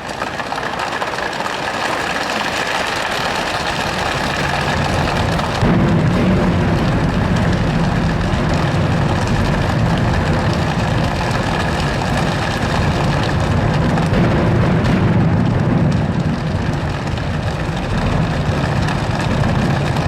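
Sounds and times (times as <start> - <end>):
children's choir imitating rain: 0.0 - 20.0
low rumble: 3.3 - 20.0.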